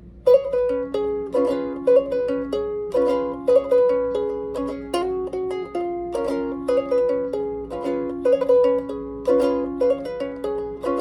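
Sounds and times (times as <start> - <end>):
fingerstyle ukulele: 0.0 - 11.0.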